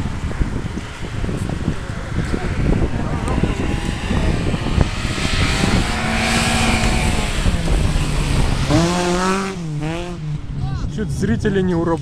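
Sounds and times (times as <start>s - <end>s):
racing car engines: 0.0s - 12.0s.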